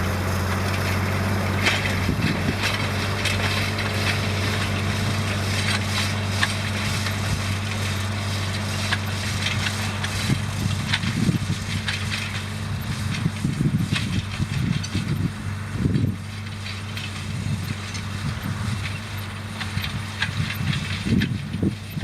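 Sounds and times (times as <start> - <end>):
heavy rumbling: 0.0 - 22.0
tractor diesel engine running: 0.0 - 22.0
clicks and rattles: 1.6 - 15.3, 15.9 - 22.0.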